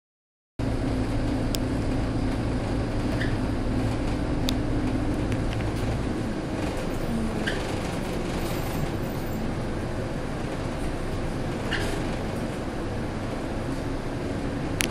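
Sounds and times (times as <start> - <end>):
bus engine running: 0.6 - 14.9
road noise: 0.6 - 14.9.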